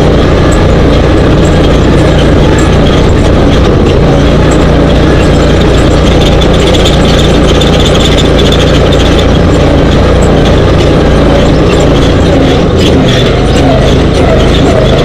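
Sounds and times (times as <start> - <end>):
dune buggy engine running: 0.0 - 15.0
road noise: 0.0 - 15.0.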